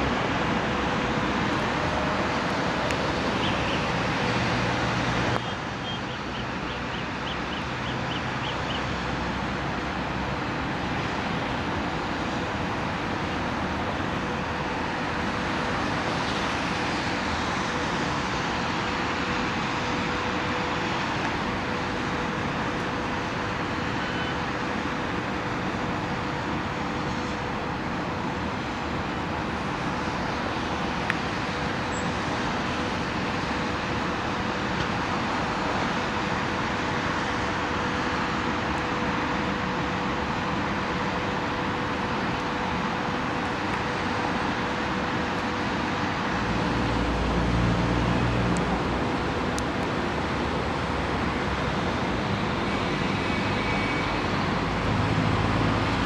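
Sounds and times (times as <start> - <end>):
city traffic din: 0.0 - 56.0.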